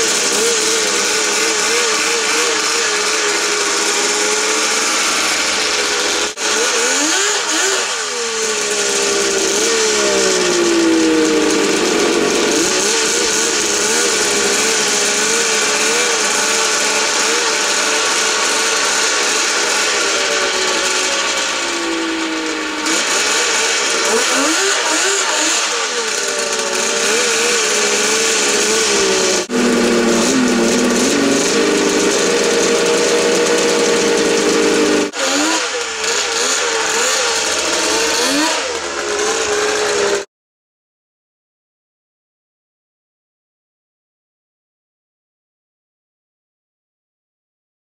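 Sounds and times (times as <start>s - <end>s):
snowmobile engine running: 0.0s - 40.3s.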